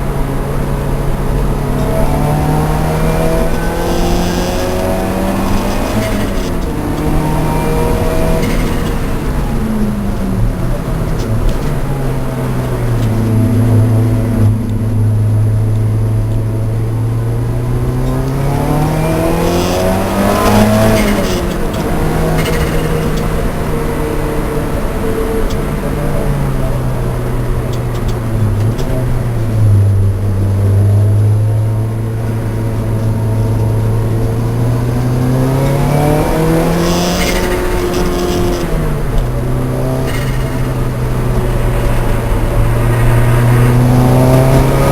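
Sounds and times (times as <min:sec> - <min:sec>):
racing car engine revving: 0:00.0 - 0:44.9.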